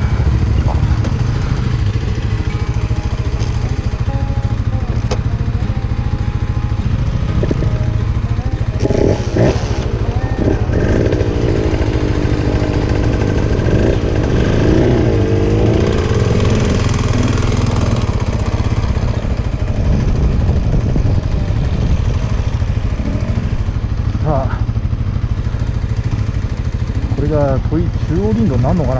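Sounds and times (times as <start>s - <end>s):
motorcycle engines revving: 0.0s - 28.9s.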